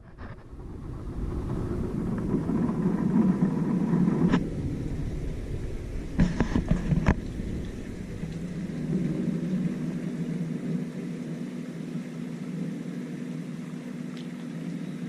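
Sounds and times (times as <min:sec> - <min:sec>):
low mechanical motor hum: 0:00.0 - 0:15.0.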